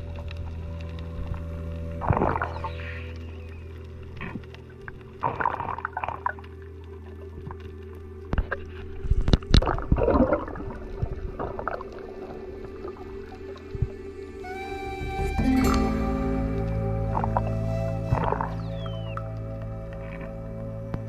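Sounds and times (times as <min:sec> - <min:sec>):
underwater gurgling swishes: 0:00.0 - 0:14.7, 0:17.0 - 0:21.0.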